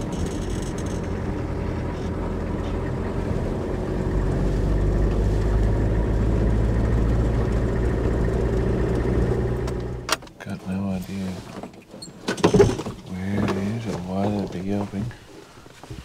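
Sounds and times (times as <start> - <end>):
tyres rolling on dirt: 0.0 - 16.0
vehicle engine rumbling: 0.0 - 16.0.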